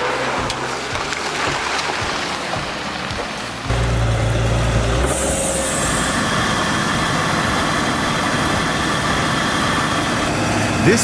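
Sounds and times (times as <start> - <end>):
heavy machine engine whine: 0.0 - 11.0.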